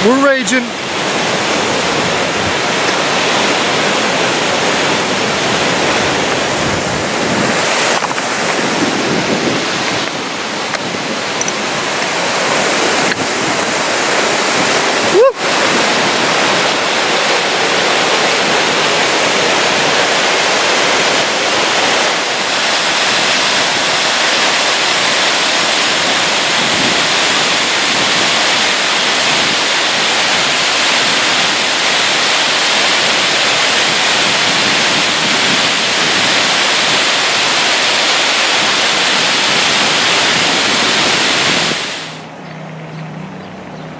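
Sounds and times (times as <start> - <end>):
waterfall rushing: 0.0 - 42.4.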